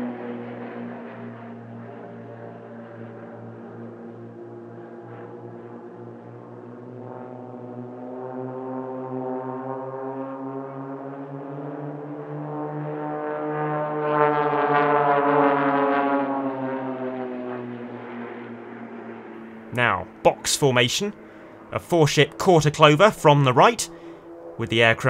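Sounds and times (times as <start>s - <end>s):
propeller aircraft droning overhead: 0.0s - 25.0s.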